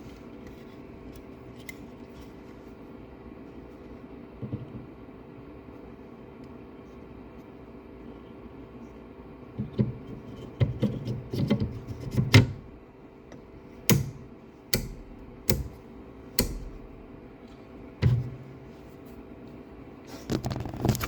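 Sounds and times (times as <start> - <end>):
steady low hum: 0.0 - 20.1.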